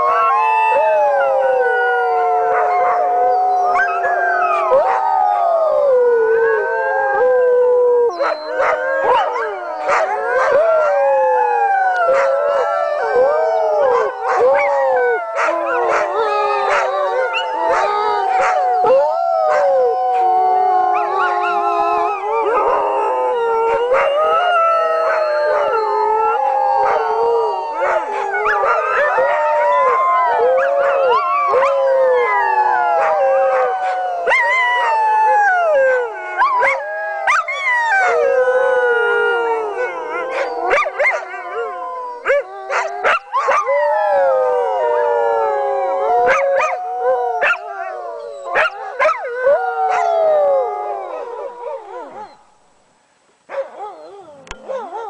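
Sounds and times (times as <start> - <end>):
dogs howling in chorus: 0.0 - 52.5, 53.5 - 55.0.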